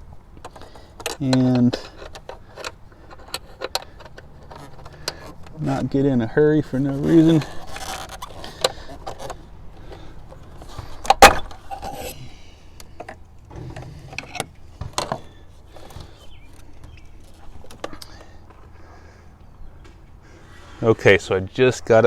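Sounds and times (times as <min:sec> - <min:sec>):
metal scraping: 0:00.0 - 0:18.2.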